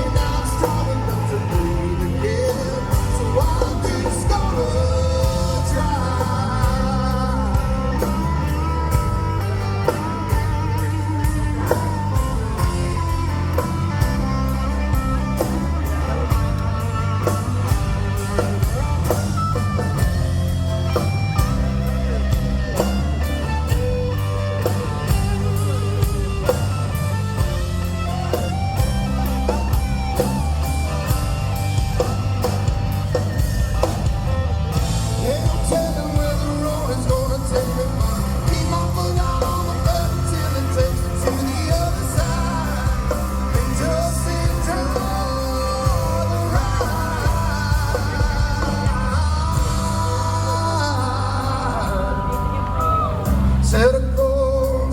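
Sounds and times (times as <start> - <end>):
drum kit beat: 0.0 - 54.8
bass guitar: 0.0 - 54.9
electric guitar lines: 0.0 - 54.9.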